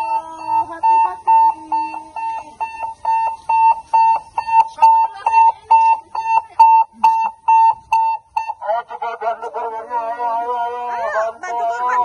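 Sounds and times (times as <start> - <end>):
electronic alarm beeping: 0.0 - 12.0.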